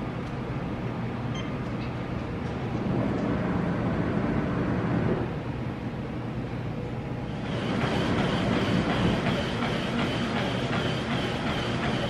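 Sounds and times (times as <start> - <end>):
treadmill motor and belt rumble: 0.0 - 12.0.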